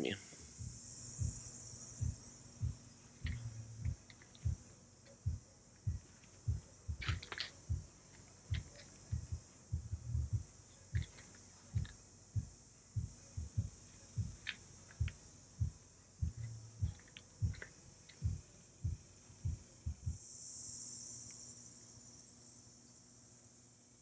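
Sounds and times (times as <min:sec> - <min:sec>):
insect chirring: 0:00.0 - 0:24.0
soft low thumps: 0:00.4 - 0:20.2.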